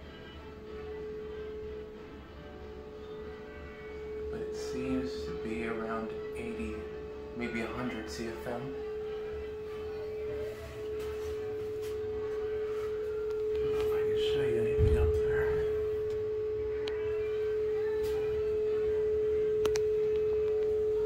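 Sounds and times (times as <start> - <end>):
high-pitched hum: 0.0 - 21.0.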